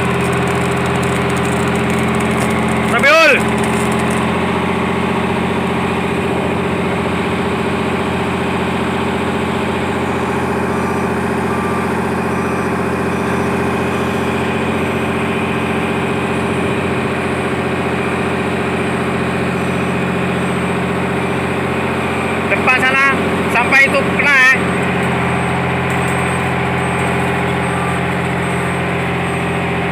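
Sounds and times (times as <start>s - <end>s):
heavy engine idling: 0.0s - 29.9s.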